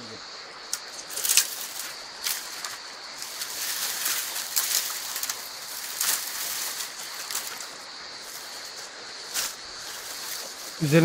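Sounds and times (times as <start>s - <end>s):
high insect trill: 0.0s - 11.0s
branches and twigs rustling: 0.2s - 11.0s.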